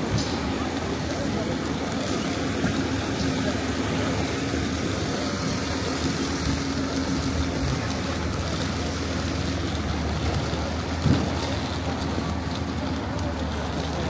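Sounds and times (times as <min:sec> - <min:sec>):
constant hum: 0:00.0 - 0:14.0
vehicle engine rumble: 0:00.0 - 0:14.0.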